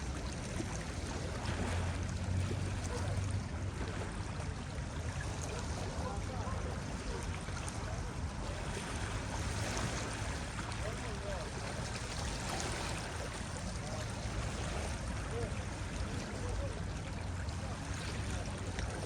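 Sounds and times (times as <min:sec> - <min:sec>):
ocean waves breaking: 0:00.0 - 0:19.0.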